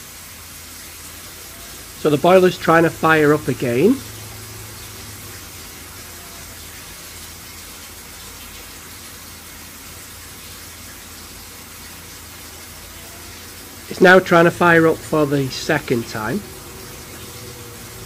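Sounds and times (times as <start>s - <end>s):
boiler fan hissing and humming: 0.0s - 18.0s.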